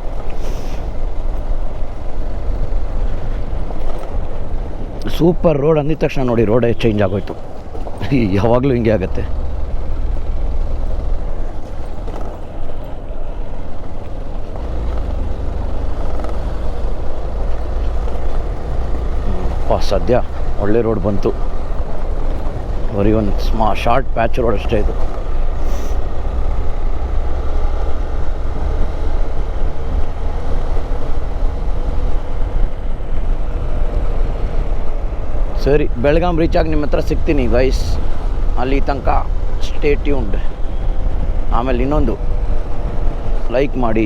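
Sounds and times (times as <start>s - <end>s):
motorcycle engine: 0.0s - 44.0s
road rumble: 0.0s - 44.0s.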